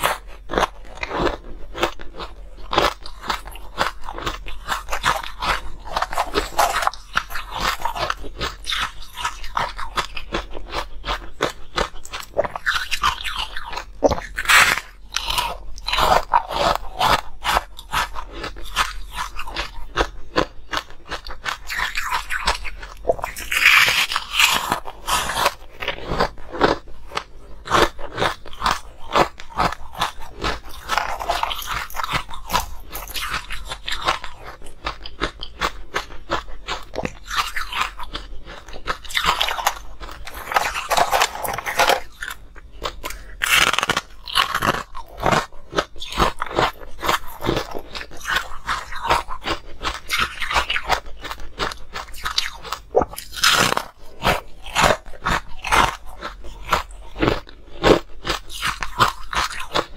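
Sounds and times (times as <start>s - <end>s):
chewing ice crunching: 0.0s - 59.9s.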